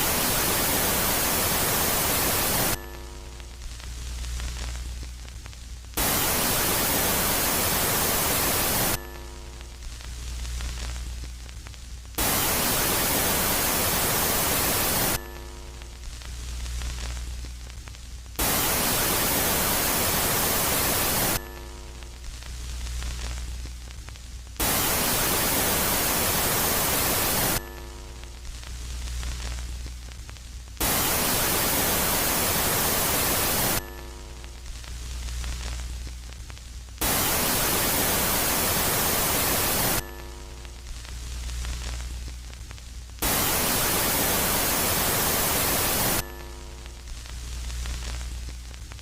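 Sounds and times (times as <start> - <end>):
white noise hiss: 0.0 - 49.0.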